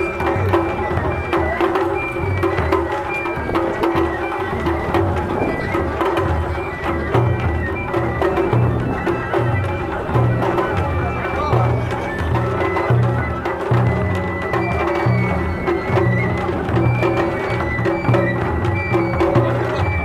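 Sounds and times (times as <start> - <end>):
drums in steady rhythm: 0.0 - 20.0
flute playing held notes: 0.0 - 20.0.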